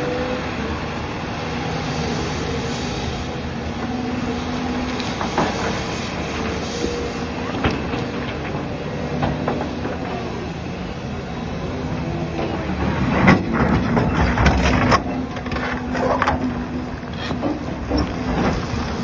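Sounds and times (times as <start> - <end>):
bulldozer diesel hum: 0.0 - 19.0.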